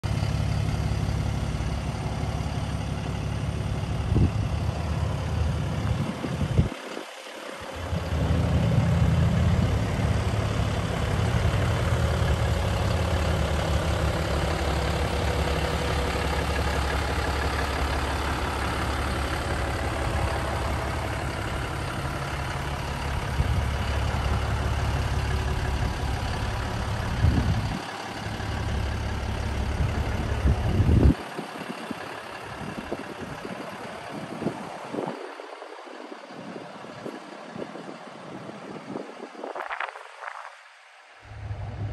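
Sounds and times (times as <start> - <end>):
diesel engine idling: 0.0 - 39.2, 41.2 - 41.9.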